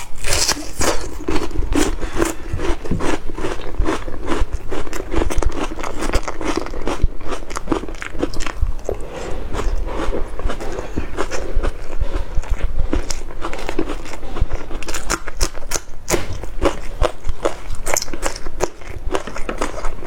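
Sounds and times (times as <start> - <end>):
crunching and chewing crisp food: 0.0 - 20.0.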